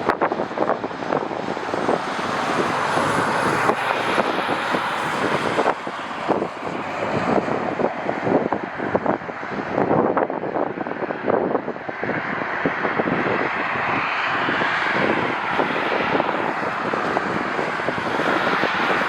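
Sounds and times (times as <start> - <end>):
jet engine rushing: 0.0 - 10.0, 10.8 - 19.0
wind buffeting microphone: 0.0 - 19.0.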